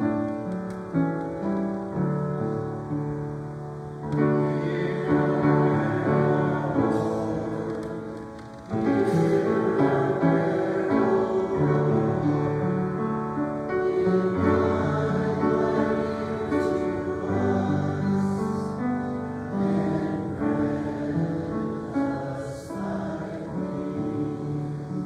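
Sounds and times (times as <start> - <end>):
choir singing church music: 0.0 - 25.0.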